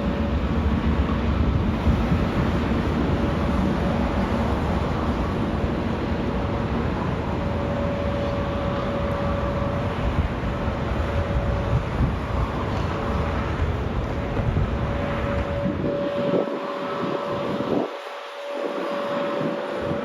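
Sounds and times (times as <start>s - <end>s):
jet engine whine: 0.0s - 20.0s
jet engines rumbling: 0.0s - 20.0s.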